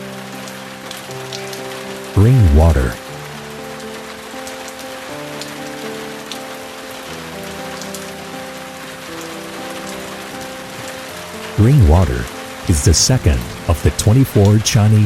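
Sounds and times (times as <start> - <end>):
raindrops: 0.0 - 15.0
soft music of held notes: 0.0 - 15.0
steady rain: 0.0 - 15.0.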